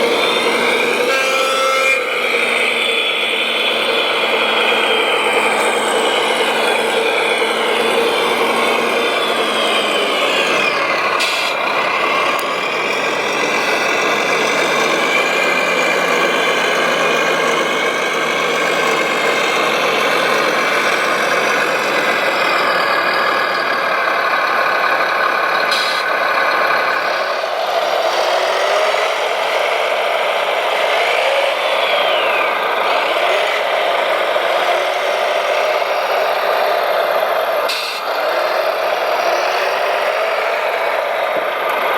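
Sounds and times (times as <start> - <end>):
electric motors whining: 0.0 - 24.0, 28.4 - 41.9.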